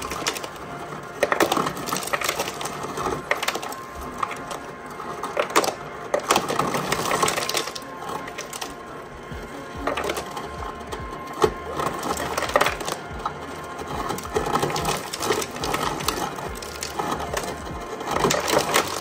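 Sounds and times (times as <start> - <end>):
ice cubes clattering into a cup: 0.0 - 4.6, 5.2 - 8.8, 9.8 - 10.6, 11.4 - 19.0
ice dispenser motor hum: 0.0 - 19.0.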